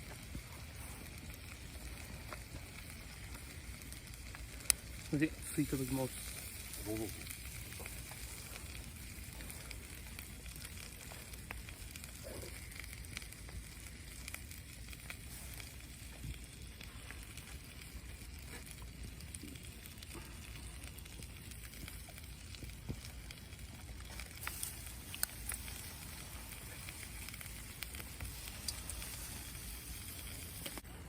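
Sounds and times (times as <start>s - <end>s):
campfire hiss: 0.0s - 31.0s
fire crackling pops: 0.0s - 31.0s.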